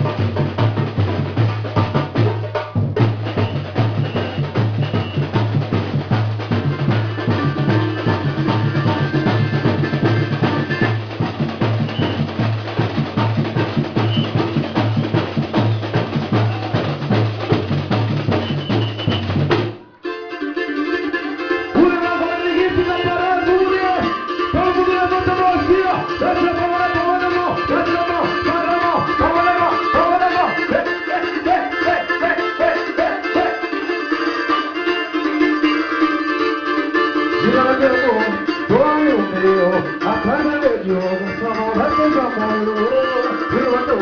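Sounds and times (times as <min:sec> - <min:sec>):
percussion ensemble drumming: 0:00.0 - 0:44.0.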